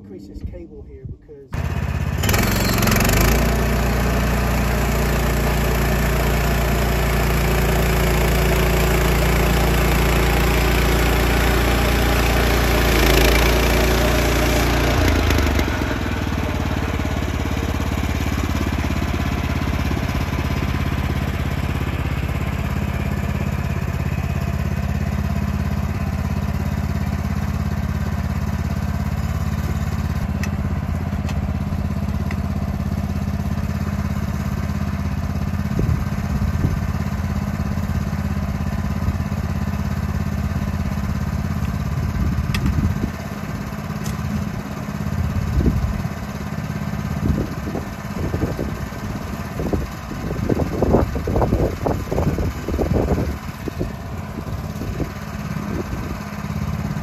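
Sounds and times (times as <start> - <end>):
sawmill gas engine running: 1.6 - 57.0.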